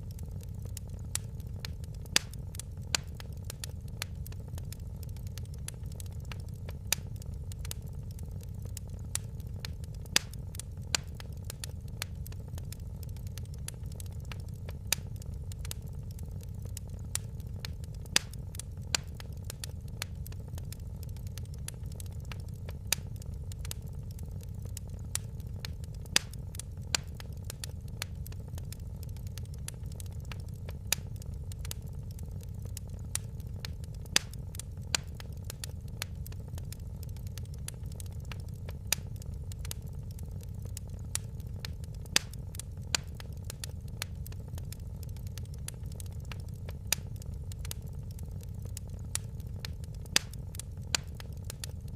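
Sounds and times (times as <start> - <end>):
fireplace fire crackling: 0.0 - 51.9.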